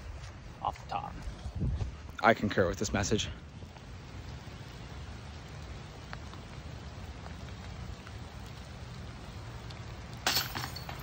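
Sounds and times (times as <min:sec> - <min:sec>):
rain falling on foliage: 0:00.0 - 0:11.0.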